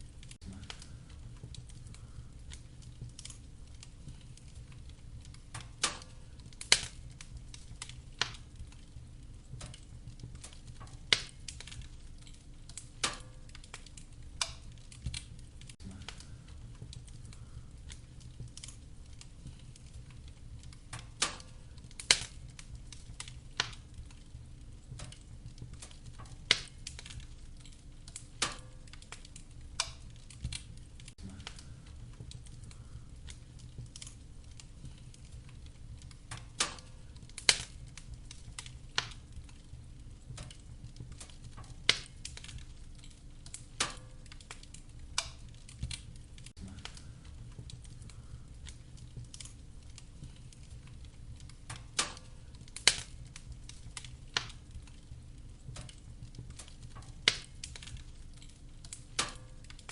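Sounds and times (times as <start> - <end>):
low rumble of burning fire: 0.0 - 59.9
wood fire pops and snaps: 0.0 - 59.9.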